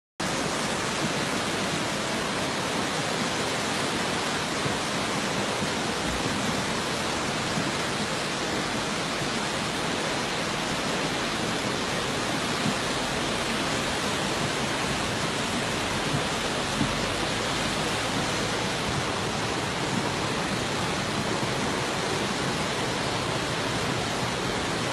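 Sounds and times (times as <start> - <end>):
floodwater rushing: 0.2 - 24.9.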